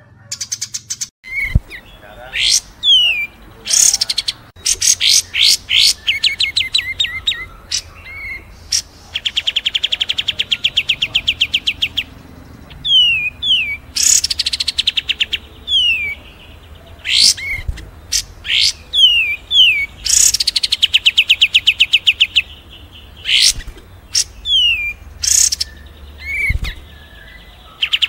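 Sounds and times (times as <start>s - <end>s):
bird trill: 0.0s - 28.0s.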